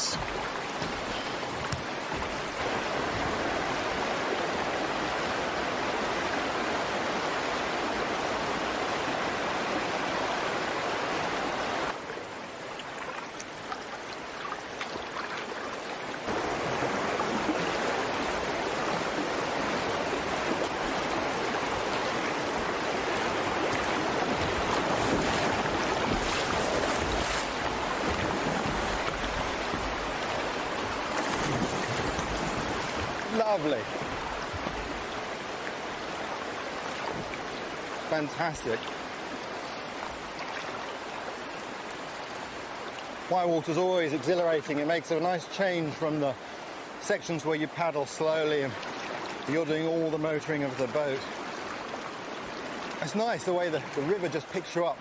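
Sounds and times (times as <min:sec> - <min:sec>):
white water rushing: 0:00.0 - 0:55.0.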